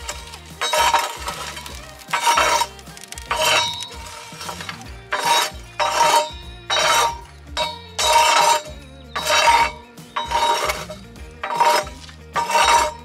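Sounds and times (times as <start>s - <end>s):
background music: 0.0s - 13.0s
metal peel scraping embers: 0.0s - 13.0s.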